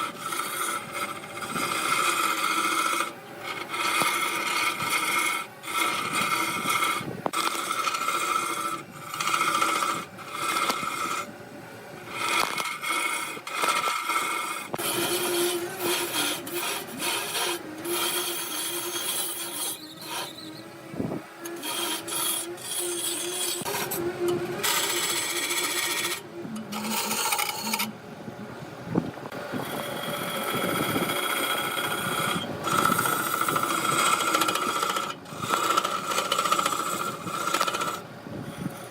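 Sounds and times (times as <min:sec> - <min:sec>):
turning tool scraping wood: 0:00.0 - 0:27.9, 0:29.3 - 0:38.9
wood lathe whine: 0:00.0 - 0:38.9.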